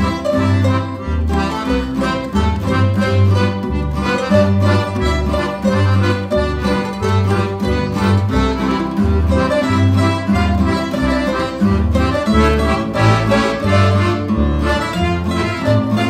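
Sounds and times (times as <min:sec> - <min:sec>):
double bass: 0:00.0 - 0:16.0
guitar: 0:00.0 - 0:16.0.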